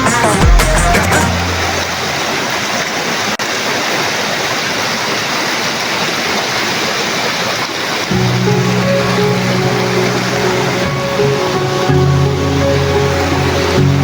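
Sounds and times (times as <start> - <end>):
waterfall pouring: 0.0 - 14.0.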